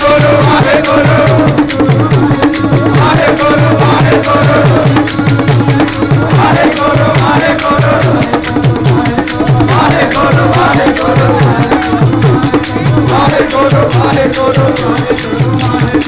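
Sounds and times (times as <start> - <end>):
drum steady beat: 0.0 - 16.0
jingling hand percussion: 0.0 - 16.0
voices singing a hymn: 0.0 - 16.0.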